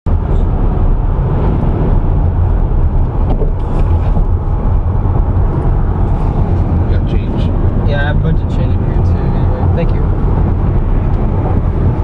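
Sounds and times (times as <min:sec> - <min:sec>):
car road and engine rumble: 0:00.1 - 0:12.0.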